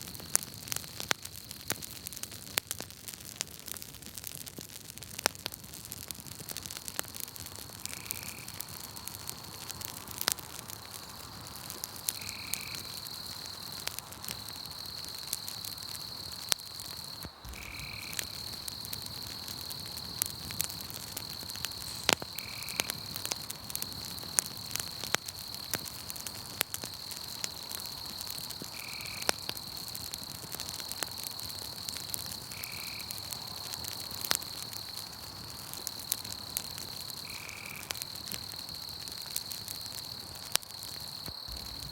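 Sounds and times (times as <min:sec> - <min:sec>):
campfire crackling and popping: 0:00.0 - 0:41.9
crickets trilling: 0:06.4 - 0:41.9.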